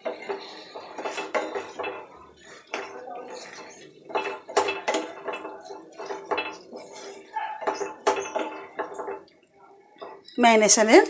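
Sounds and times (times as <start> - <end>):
metal spoon scraping a pan: 0.0 - 10.4.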